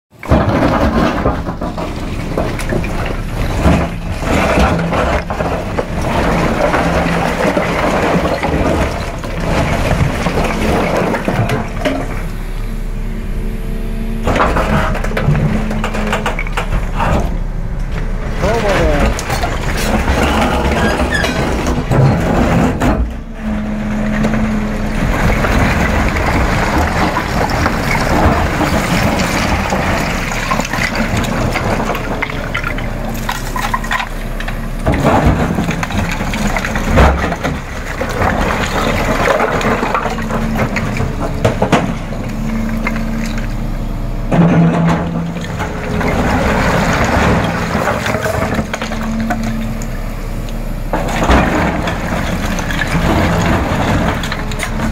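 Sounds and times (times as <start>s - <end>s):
excavator engine running: 0.1s - 54.9s.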